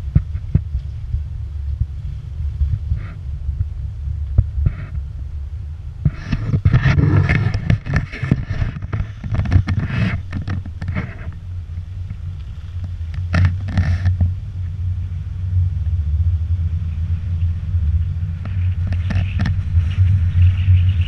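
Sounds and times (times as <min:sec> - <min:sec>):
low rumble on dirt road: 0:00.0 - 0:21.0.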